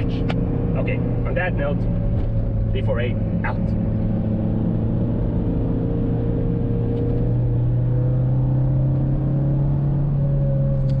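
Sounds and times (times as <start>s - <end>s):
car engine from inside cabin: 0.0s - 11.0s
road rumble: 0.0s - 11.0s.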